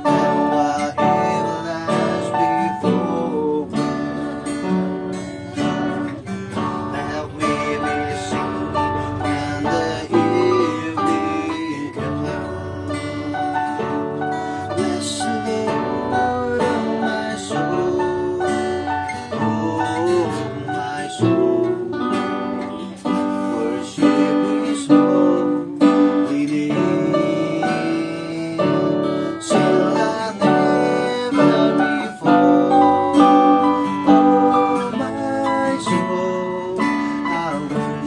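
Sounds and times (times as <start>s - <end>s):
acoustic guitar melody: 0.0s - 38.0s
keyboard notes: 0.0s - 38.0s.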